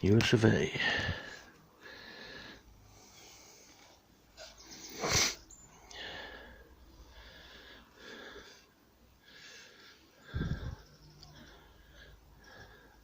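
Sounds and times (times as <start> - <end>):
person breathing: 0.8 - 4.0, 4.9 - 13.0.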